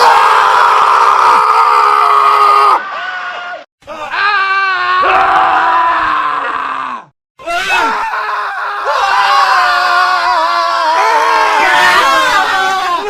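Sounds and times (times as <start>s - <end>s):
men screaming: 0.0s - 13.0s.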